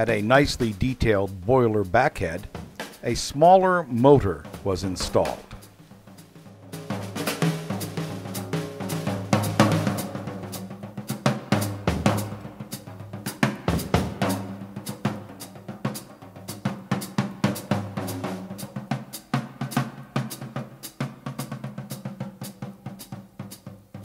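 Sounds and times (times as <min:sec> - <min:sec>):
drum kit playing: 0:00.0 - 0:24.0.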